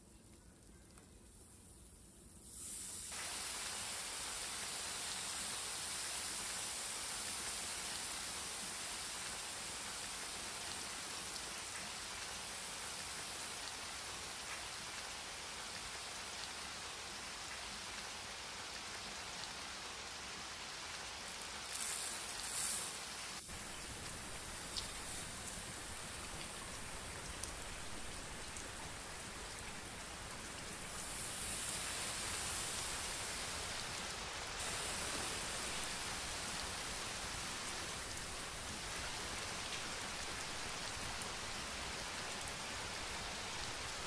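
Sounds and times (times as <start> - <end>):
stream pattering on plastic wrap: 0.0 - 2.3, 3.1 - 44.0.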